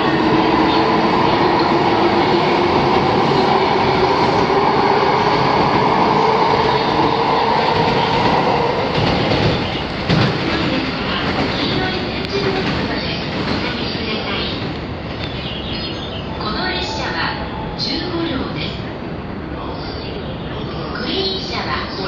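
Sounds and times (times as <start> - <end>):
electric train wheel-and-rail noise: 0.0 - 22.0
train hum: 0.0 - 22.0.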